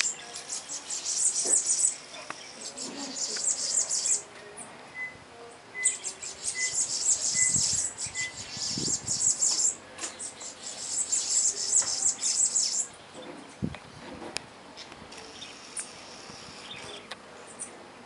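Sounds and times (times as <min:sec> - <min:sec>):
songbirds chattering and singing: 0:00.0 - 0:18.0.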